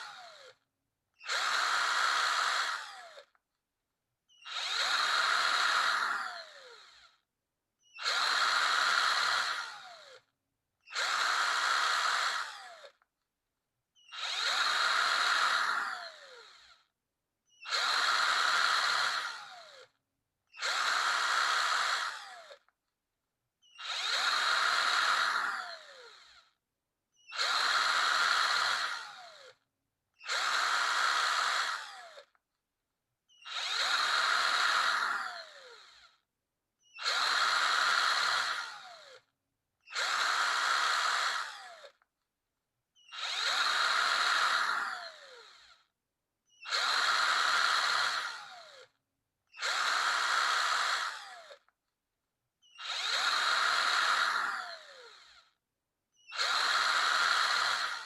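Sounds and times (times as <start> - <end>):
power drill whirring: 0.0 - 3.4, 4.3 - 13.1, 14.0 - 22.8, 23.6 - 32.4, 33.3 - 42.1, 43.0 - 45.9, 46.5 - 51.8, 52.6 - 58.0.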